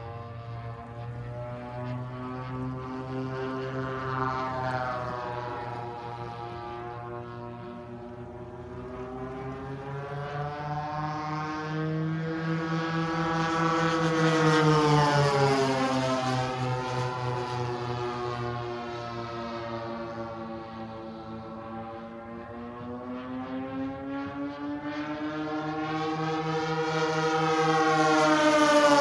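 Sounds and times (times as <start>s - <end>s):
model plane engines passing overhead: 0.0s - 29.0s.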